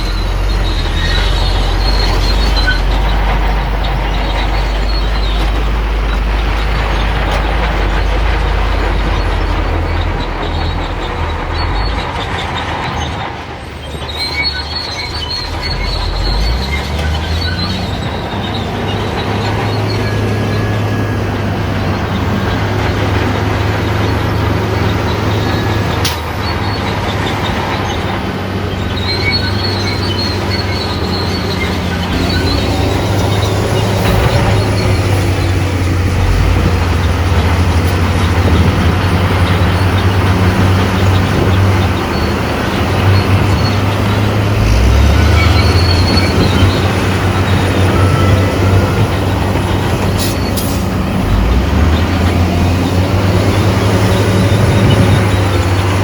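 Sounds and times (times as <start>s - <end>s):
bulldozer diesel engine under load: 0.0s - 56.0s
steel tracks squealing: 0.0s - 56.0s.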